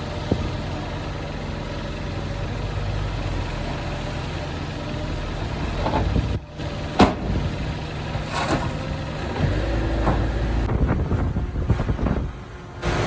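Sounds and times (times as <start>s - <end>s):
heavy machinery diesel engines: 0.0s - 13.0s.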